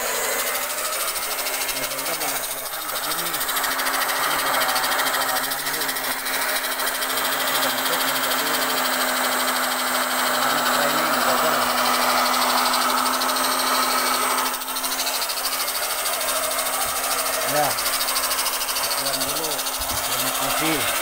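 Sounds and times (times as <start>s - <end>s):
workshop machinery humming: 0.0s - 21.0s.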